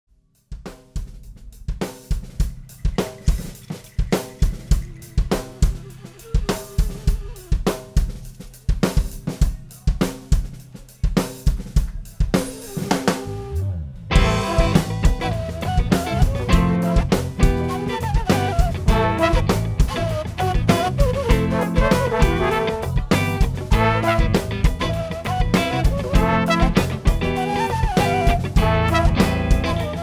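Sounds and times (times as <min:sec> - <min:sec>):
funk drum kit groove: 0:00.5 - 0:30.0.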